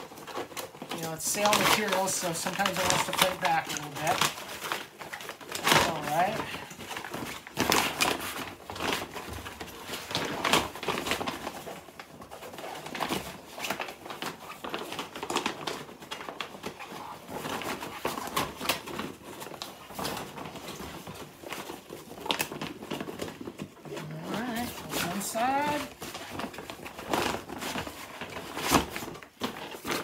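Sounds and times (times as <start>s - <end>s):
stiff cloth rustling and crackling: 0.0s - 30.0s.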